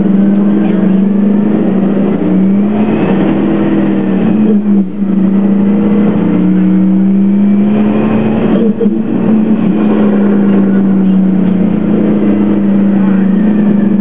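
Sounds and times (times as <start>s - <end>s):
bus engine accelerating: 0.0s - 14.0s.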